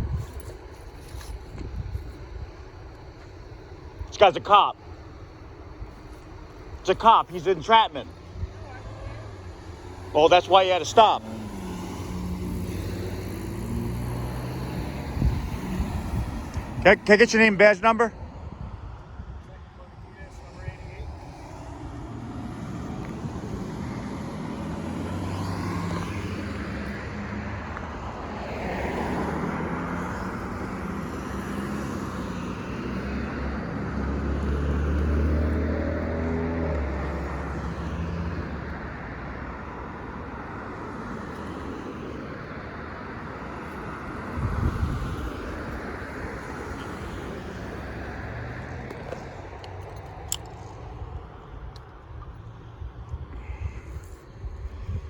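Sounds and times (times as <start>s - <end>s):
cars driving past: 0.0s - 55.0s.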